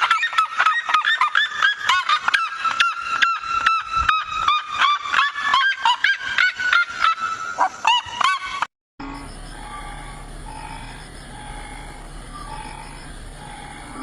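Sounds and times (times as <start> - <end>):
bird calling: 0.0 - 14.0.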